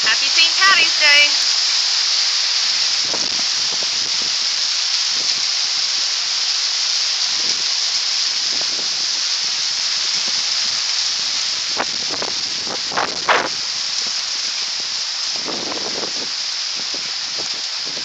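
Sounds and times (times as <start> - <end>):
hail hissing: 0.0 - 18.0.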